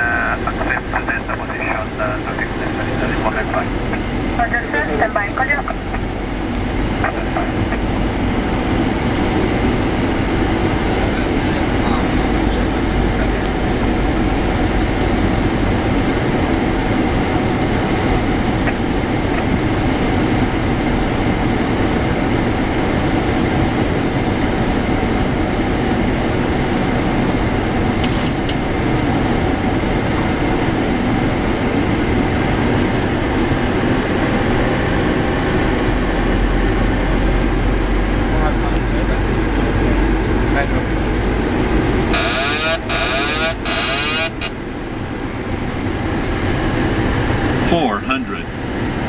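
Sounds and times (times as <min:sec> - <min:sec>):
airflow and engine drone: 0:00.0 - 0:49.0.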